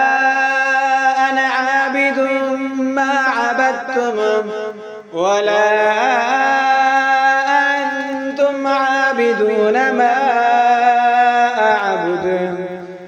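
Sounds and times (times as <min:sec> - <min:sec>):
person chanting a recitation: 0:00.0 - 0:13.0.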